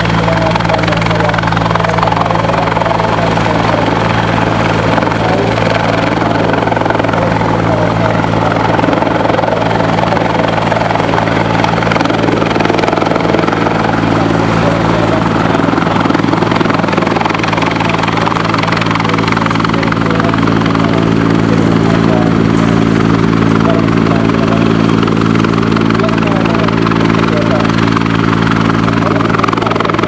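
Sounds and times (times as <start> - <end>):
helicopter hovering: 0.0 - 30.0.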